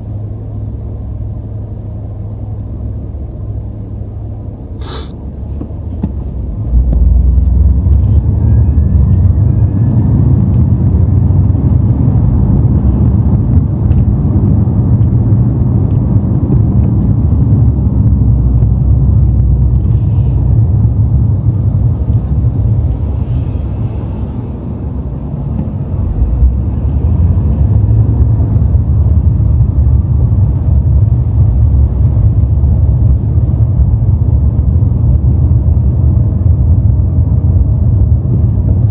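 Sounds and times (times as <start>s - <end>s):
car engine rumble: 0.0s - 38.9s
road noise: 0.0s - 38.9s.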